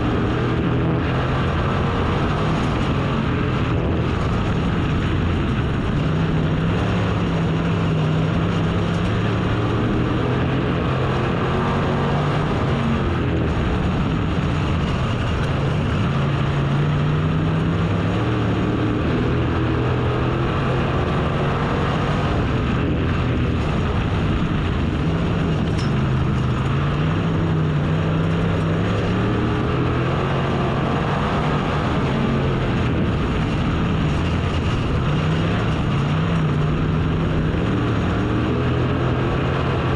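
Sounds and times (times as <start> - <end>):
race car engine accelerating: 0.0 - 39.9
steady rush of noise: 0.0 - 39.9.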